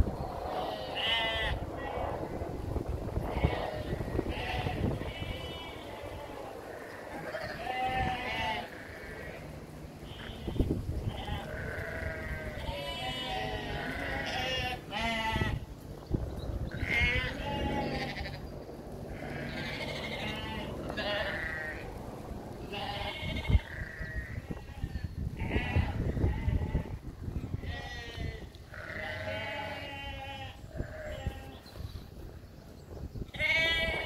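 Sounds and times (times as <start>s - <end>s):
sheep and lambs bleating: 0.5s - 2.4s, 3.2s - 15.7s, 16.7s - 18.5s, 19.1s - 22.0s, 22.6s - 31.8s, 33.3s - 34.0s.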